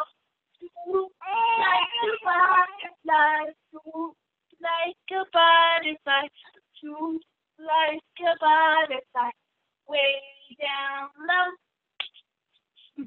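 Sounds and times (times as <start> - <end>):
woman singing: 0.0 - 11.6.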